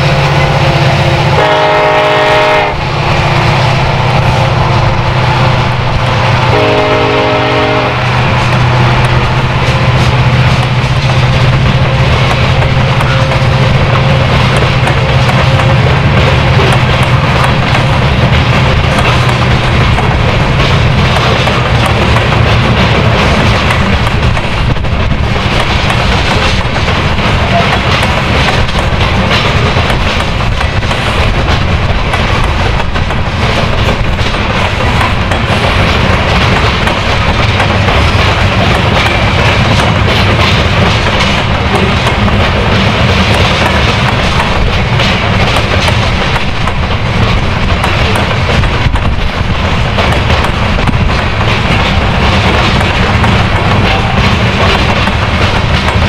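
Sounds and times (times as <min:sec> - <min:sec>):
train wheels clicking on rails: 0:00.0 - 0:56.0.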